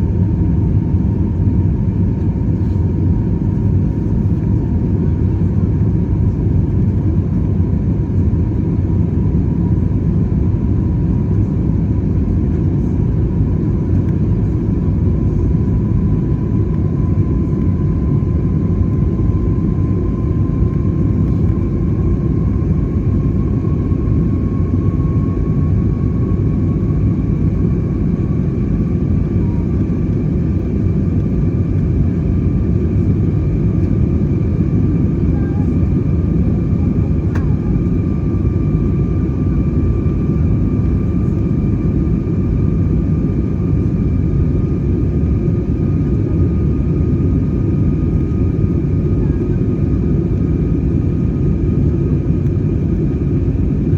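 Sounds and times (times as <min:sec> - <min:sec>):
airliner cabin engine rumble: 0:00.0 - 0:53.9.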